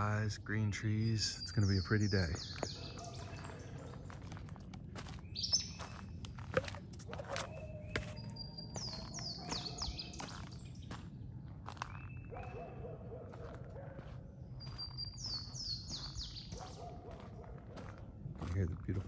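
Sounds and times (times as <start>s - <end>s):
songbirds singing: 0.0s - 19.0s
footsteps on dirt trail: 2.2s - 12.7s, 13.3s - 19.0s.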